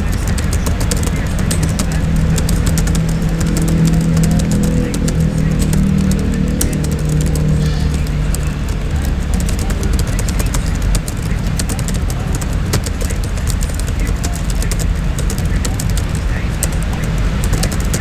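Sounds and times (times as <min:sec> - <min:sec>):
steady low rumble: 0:00.0 - 0:18.0
typing on laptop keyboard: 0:00.0 - 0:18.0.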